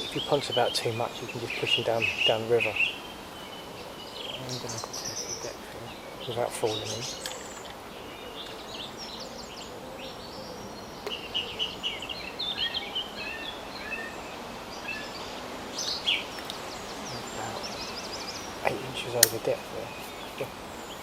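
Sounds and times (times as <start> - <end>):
outdoor background hiss: 0.0 - 21.0
small songbirds chirping: 0.0 - 21.0.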